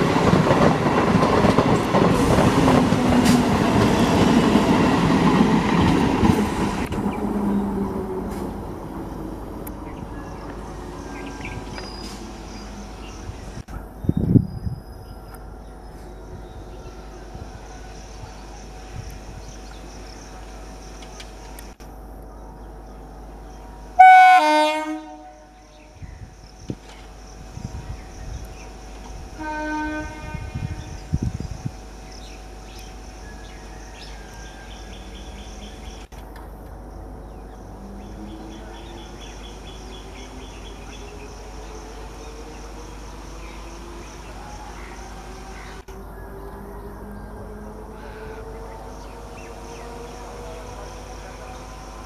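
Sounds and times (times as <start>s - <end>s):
insects chirring: 0.0s - 24.0s, 25.2s - 29.4s, 30.0s - 52.0s
electric train humming: 0.0s - 52.0s.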